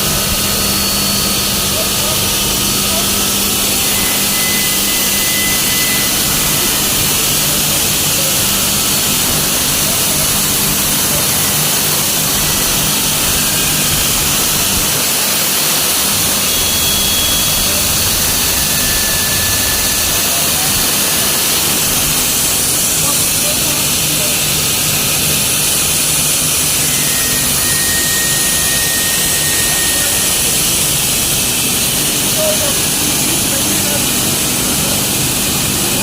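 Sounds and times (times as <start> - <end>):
machine hissing over low hum: 0.0 - 36.0.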